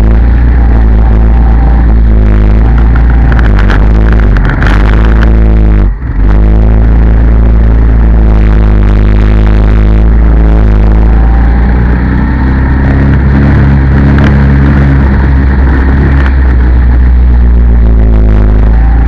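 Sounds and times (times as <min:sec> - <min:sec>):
go-kart engine at speed: 0:00.0 - 0:19.0.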